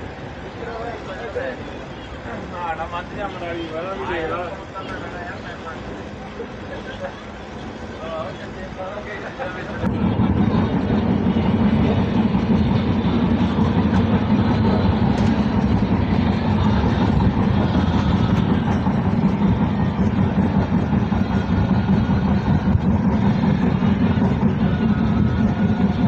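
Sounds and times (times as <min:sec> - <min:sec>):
train rumbling along track: 0:00.0 - 0:26.0.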